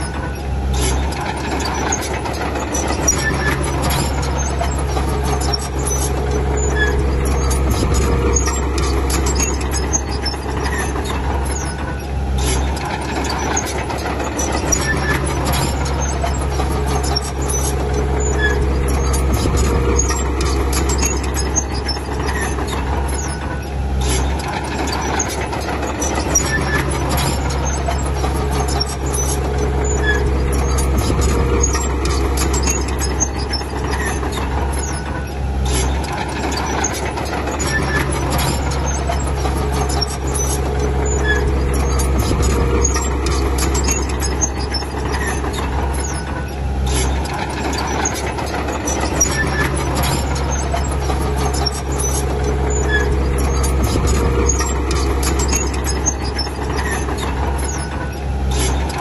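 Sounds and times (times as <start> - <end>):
bulldozer diesel engine: 0.0 - 59.0
machine squeaks: 0.0 - 59.0
metallic clanking: 0.0 - 59.0.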